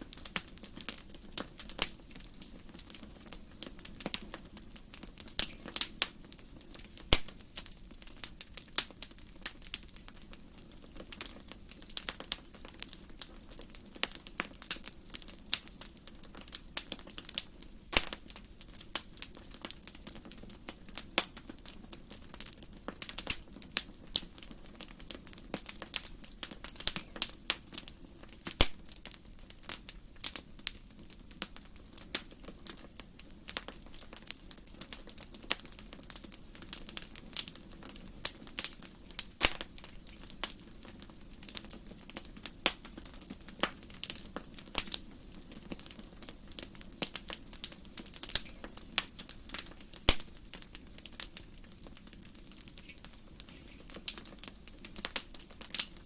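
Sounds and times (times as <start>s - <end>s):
low steady hiss: 0.0s - 56.0s
wood fire crackling: 0.0s - 56.0s.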